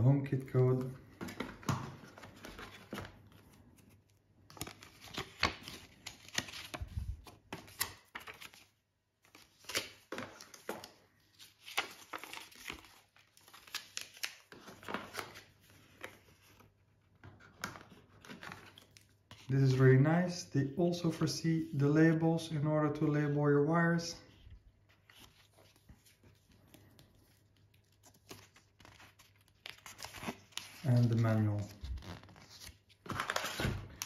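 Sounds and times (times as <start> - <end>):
paper and cardboard rustling: 0.6 - 20.0, 24.3 - 34.0.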